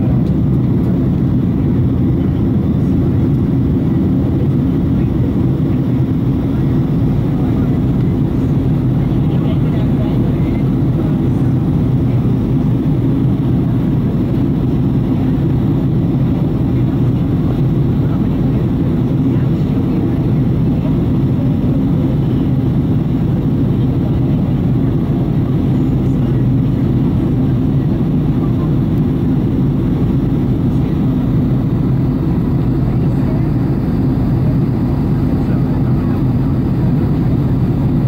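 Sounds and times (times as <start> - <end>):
airliner cabin engine drone: 0.0 - 38.0.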